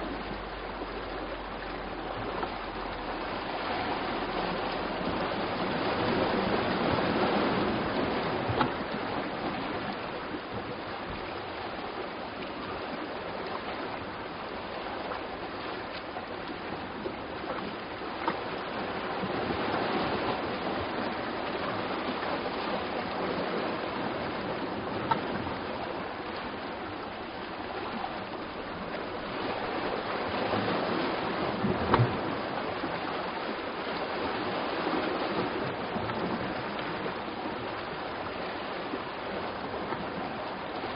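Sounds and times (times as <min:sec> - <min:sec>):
sea surf on rocky shore: 0:00.0 - 0:40.9.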